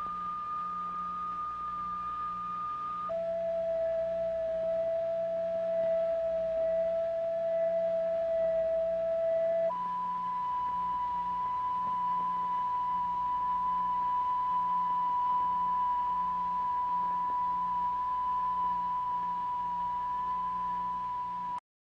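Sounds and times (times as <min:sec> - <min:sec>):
faint low hum: 0:00.0 - 0:21.6
pure steady test tone: 0:00.0 - 0:21.6.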